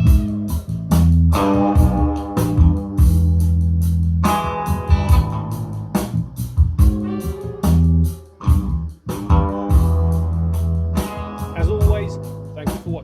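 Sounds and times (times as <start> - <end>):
music through a speaker: 0.0 - 13.0.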